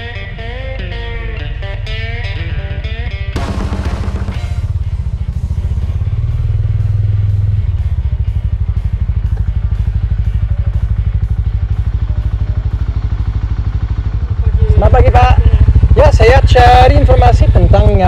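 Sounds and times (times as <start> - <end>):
small motorcycle engine running: 1.9 - 18.0.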